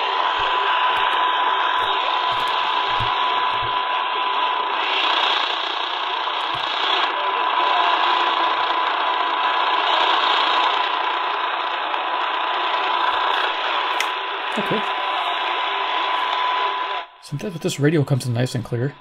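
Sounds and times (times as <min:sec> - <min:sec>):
radio static hiss: 0:00.0 - 0:18.8.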